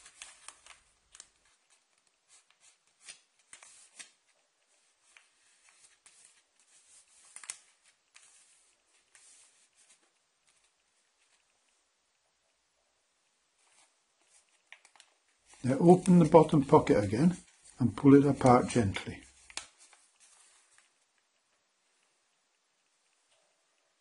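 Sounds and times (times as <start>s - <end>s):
paper rustling: 0.0s - 11.7s, 13.6s - 21.2s.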